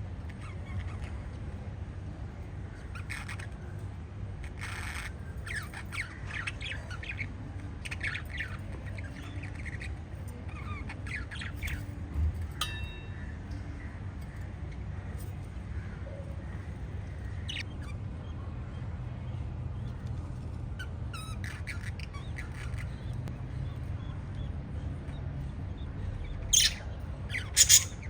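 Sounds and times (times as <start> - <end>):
parrots chirping and squawking: 0.2 - 1.7, 2.7 - 18.3, 19.9 - 24.1, 26.4 - 28.0.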